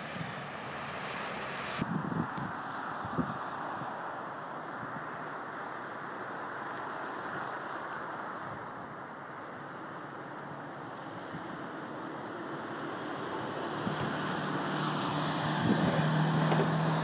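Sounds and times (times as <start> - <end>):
traffic on snowy street: 0.0 - 17.0.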